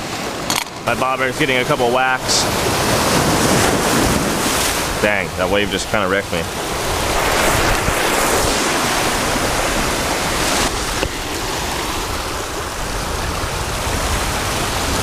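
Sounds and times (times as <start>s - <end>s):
surf washing over rocks: 0.0s - 15.0s.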